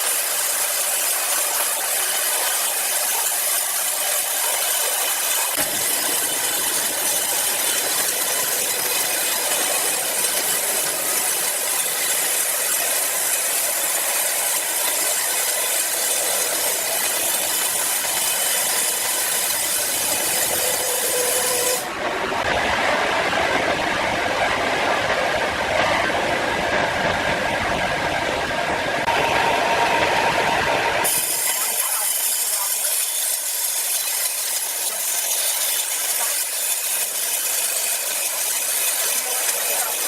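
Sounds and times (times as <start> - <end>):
power saw cutting wood: 0.0 - 22.6, 29.0 - 40.0.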